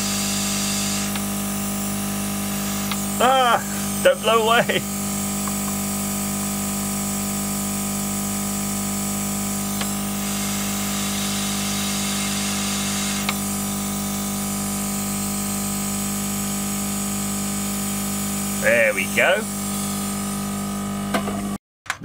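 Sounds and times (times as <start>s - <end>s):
hot-air station fan and hiss: 0.0s - 21.5s.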